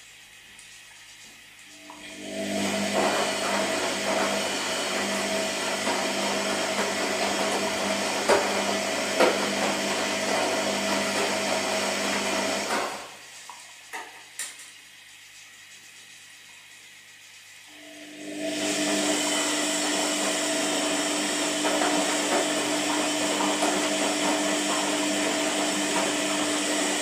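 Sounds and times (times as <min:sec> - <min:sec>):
washing machine running: 0:00.0 - 0:27.0.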